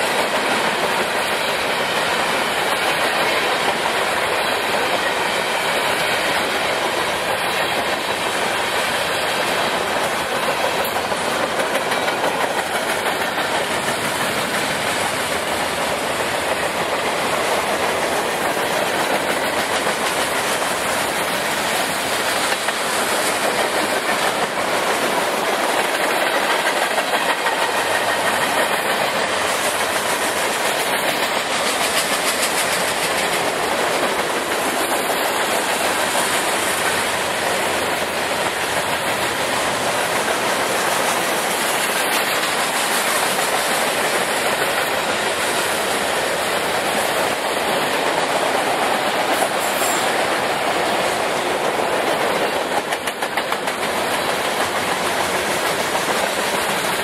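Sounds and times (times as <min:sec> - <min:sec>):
train wheels rolling on rails: 0:00.0 - 0:57.0.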